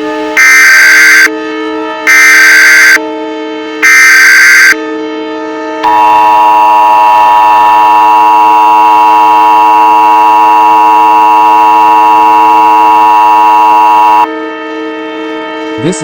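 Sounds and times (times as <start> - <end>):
two-tone alarm: 0.0 - 16.0
low steady drone: 3.0 - 16.0.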